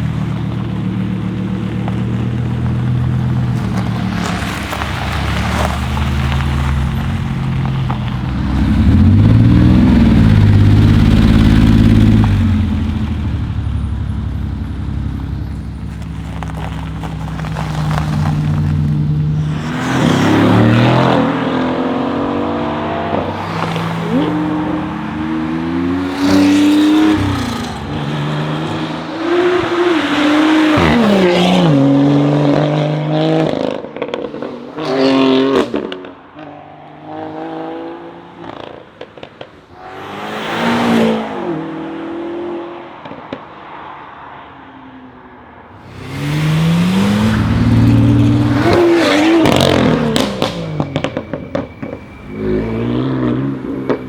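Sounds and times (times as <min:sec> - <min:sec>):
car engine revving: 0:00.0 - 0:36.3, 0:45.7 - 0:54.0.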